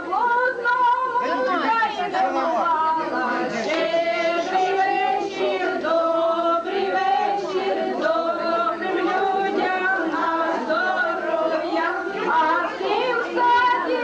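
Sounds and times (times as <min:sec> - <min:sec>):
voices singing together: 0:00.0 - 0:14.0.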